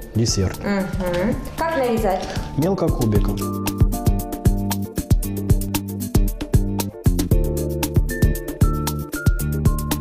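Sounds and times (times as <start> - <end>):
music with steady drum beat: 0.0 - 10.0.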